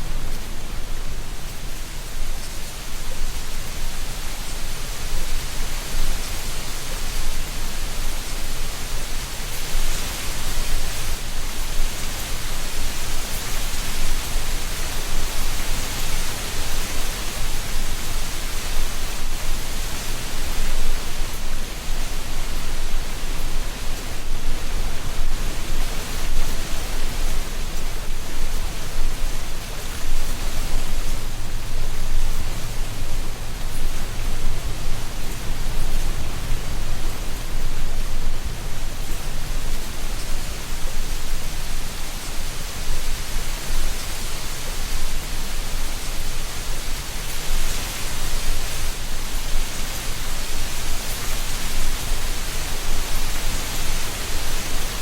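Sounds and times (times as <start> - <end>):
wind through treetops: 0.0 - 55.0.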